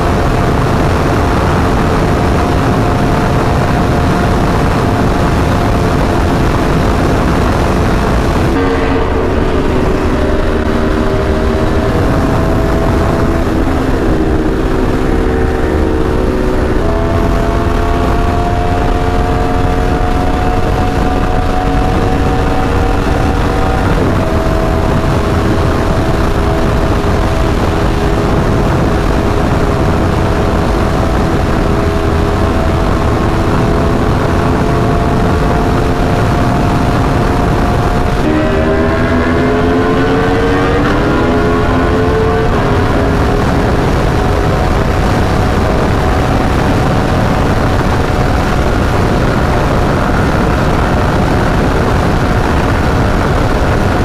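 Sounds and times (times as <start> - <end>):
motorcycle engine at highway speed: 0.0 - 54.0
wind rush on microphone: 0.0 - 54.0.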